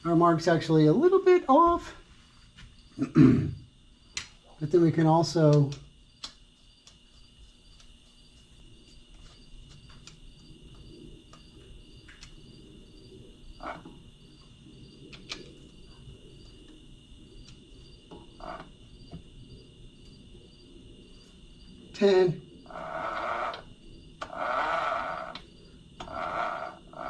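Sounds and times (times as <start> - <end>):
insect chirping: 0.0 - 27.0.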